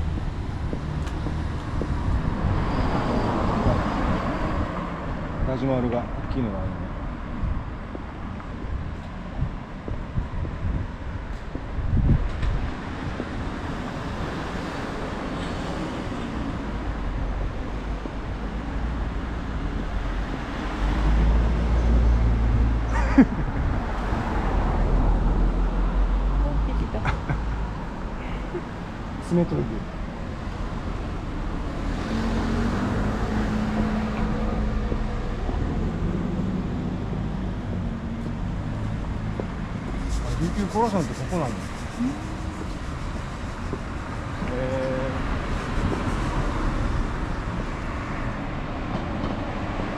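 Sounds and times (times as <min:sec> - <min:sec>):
road traffic hum: 0:00.0 - 0:49.9
vehicle low rumble: 0:00.0 - 0:49.9.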